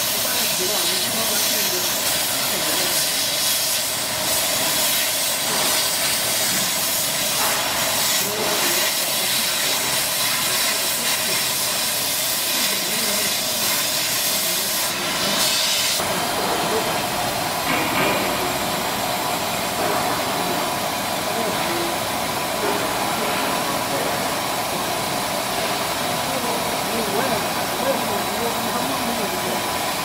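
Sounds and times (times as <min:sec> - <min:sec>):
laser cutter hissing: 0:00.0 - 0:30.0.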